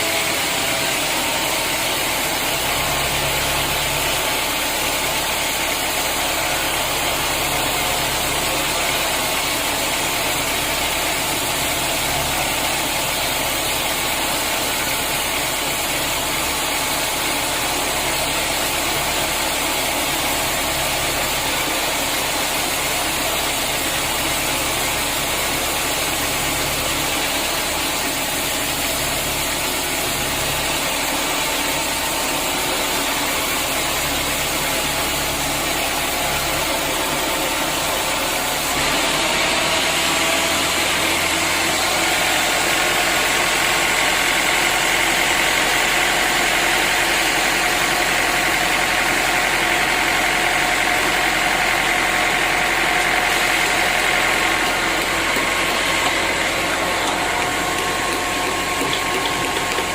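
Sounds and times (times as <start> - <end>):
sawmill machinery hum and hiss: 0.0 - 59.9.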